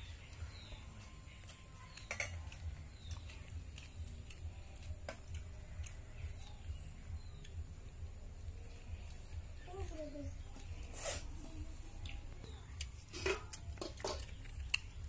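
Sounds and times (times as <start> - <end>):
eating sounds: 0.0 - 15.0.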